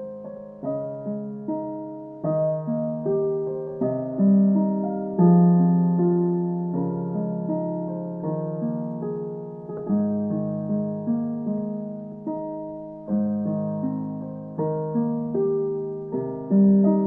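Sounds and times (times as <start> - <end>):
soft electric piano: 0.0 - 17.0.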